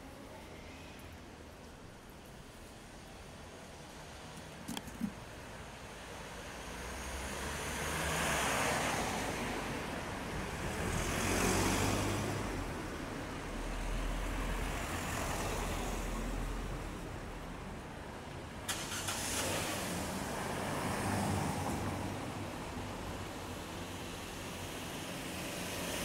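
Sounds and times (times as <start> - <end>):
cars passing: 4.1 - 26.0.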